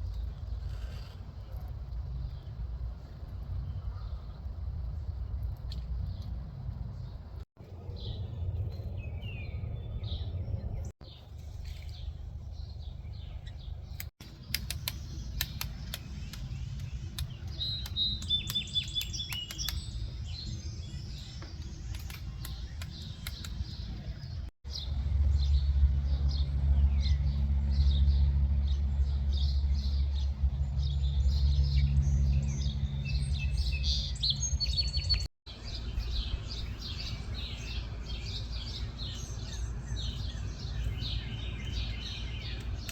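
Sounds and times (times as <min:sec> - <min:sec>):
birds chirping and calling: 0:07.8 - 0:25.6, 0:26.3 - 0:42.9.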